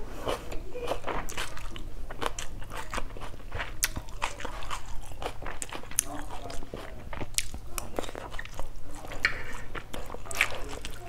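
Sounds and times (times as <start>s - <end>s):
close chewing with wet crunches: 0.0s - 11.0s.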